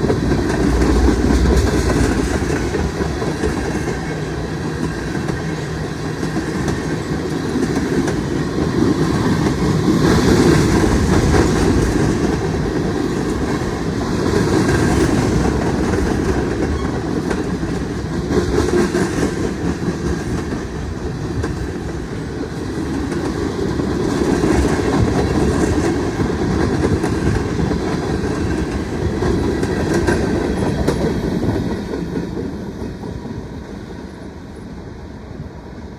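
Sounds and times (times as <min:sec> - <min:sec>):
freight train wheels clacking: 0:00.0 - 0:34.3.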